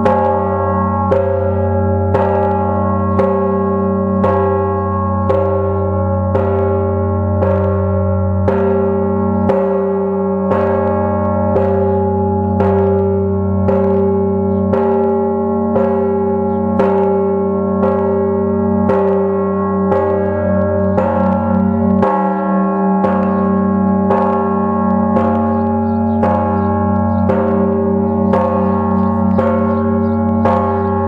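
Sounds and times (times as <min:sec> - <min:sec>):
church bell ringing: 0:00.0 - 0:31.0.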